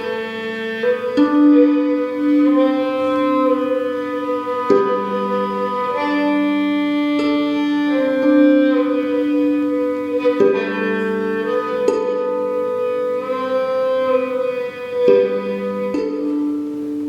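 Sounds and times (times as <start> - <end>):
bowed strings playing slow notes: 0.0 - 17.0
violin: 0.0 - 17.0.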